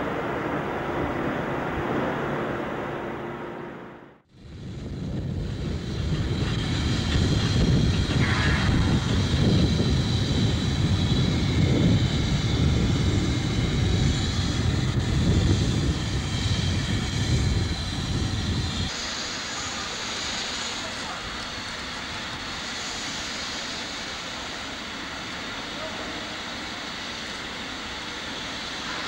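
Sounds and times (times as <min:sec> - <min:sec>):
steam locomotive rumbling: 0:00.0 - 0:29.0
steam hiss: 0:04.5 - 0:29.0.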